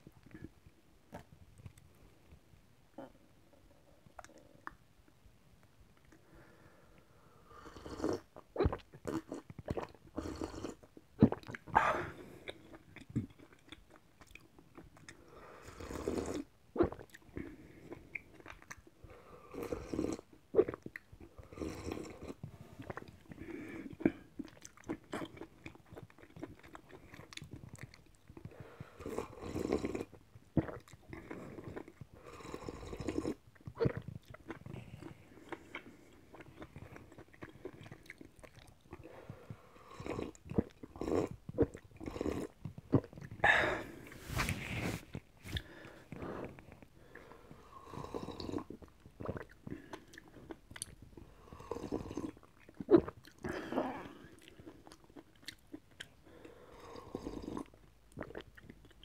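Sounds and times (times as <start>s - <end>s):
person sipping and gulping soup: 6.0s - 59.0s.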